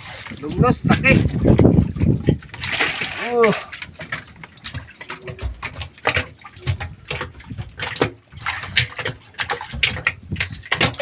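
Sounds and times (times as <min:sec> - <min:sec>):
fish thrashing in water: 0:00.0 - 0:11.0
water splashing and sloshing: 0:00.0 - 0:11.0.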